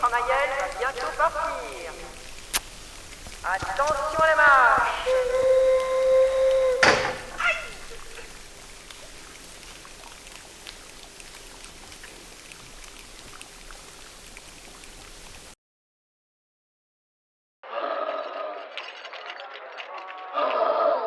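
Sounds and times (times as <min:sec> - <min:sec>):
foley rain crackles and ticks: 0:00.0 - 0:15.6, 0:18.8 - 0:20.6.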